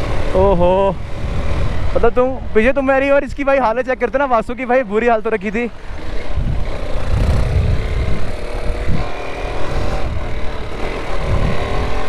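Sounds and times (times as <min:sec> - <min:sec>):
wind rumbling on microphone: 0:00.0 - 0:04.1, 0:05.9 - 0:12.0
motorcycle engine running: 0:00.0 - 0:12.0.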